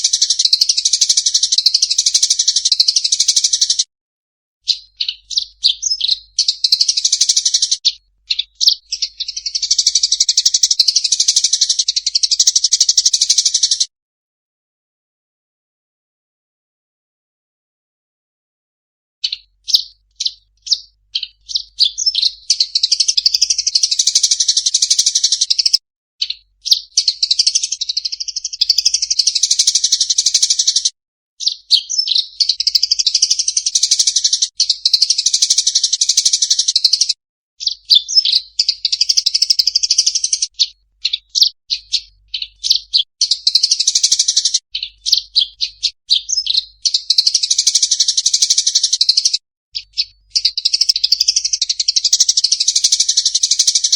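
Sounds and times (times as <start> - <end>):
songbird twittering song: 0.0 - 3.9, 4.6 - 13.9, 19.2 - 53.9.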